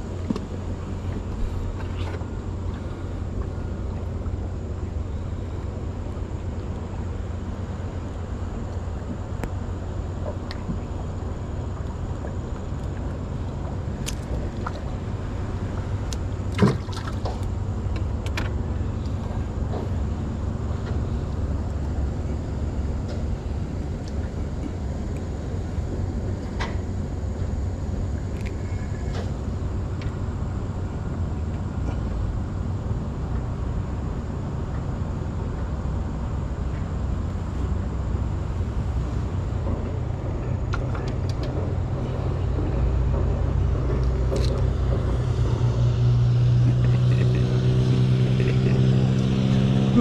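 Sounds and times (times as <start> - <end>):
motorboat engine rumble: 0.0 - 50.0.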